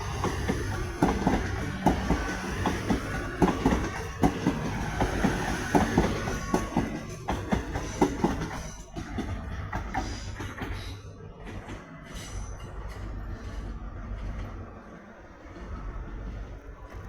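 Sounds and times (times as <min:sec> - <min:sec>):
wheels clicking over rail joints: 0:00.0 - 0:14.7
train rumbling: 0:00.0 - 0:17.0.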